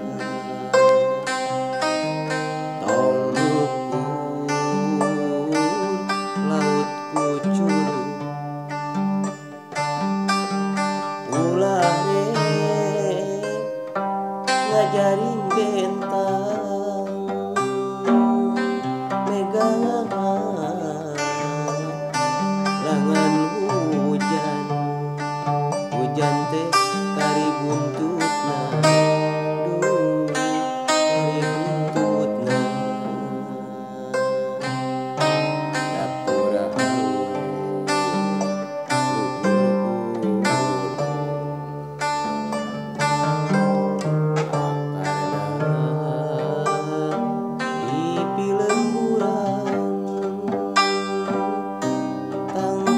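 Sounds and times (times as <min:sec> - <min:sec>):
plucked zither melody: 0:00.0 - 0:52.9
wavering ornamented melody line: 0:00.0 - 0:52.9.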